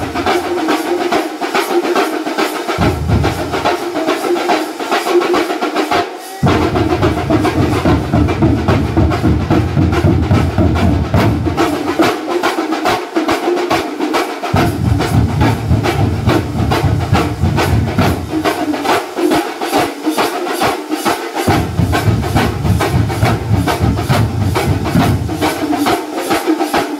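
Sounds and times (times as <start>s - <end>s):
drum ensemble playing: 0.0s - 26.9s.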